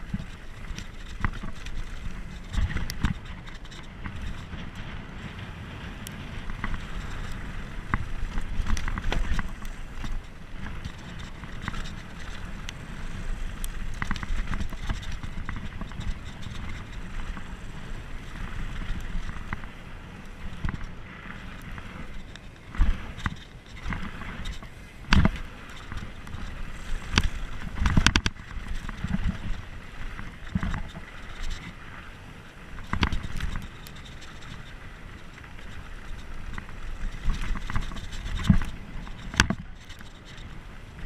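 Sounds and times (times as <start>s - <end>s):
bike clattering over bumps: 0.0s - 41.0s
wind buffeting microphone: 0.0s - 41.0s.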